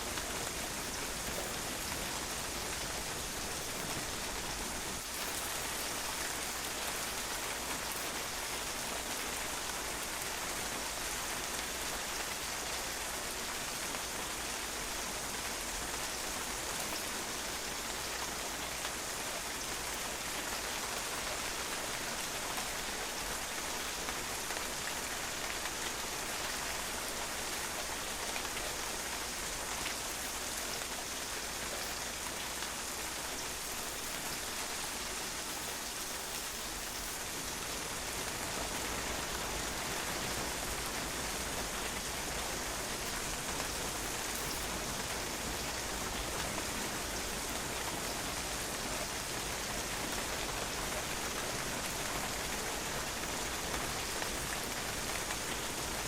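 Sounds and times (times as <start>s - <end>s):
rain pattering on a patio: 0.0s - 56.0s.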